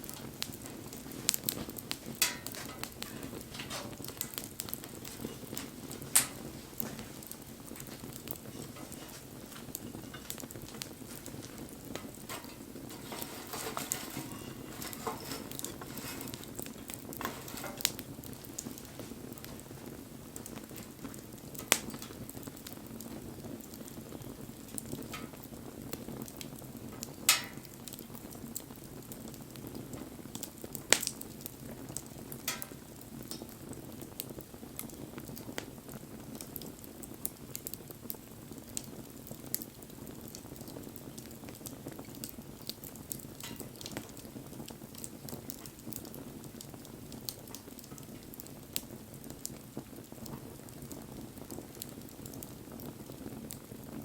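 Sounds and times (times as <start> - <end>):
bonfire rushing: 0.0 - 54.0
fire crackles and pops: 0.0 - 54.0.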